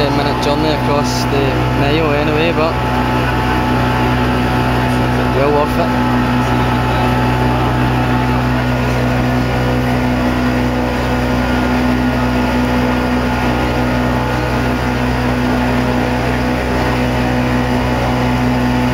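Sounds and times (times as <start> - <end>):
motorboat engine droning: 0.0 - 18.9
water rushing along hull: 0.0 - 18.9.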